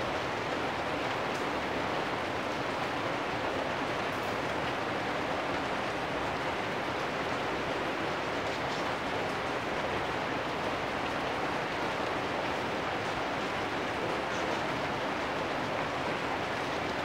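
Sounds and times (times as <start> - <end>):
rain on metal roofs: 0.0 - 17.0.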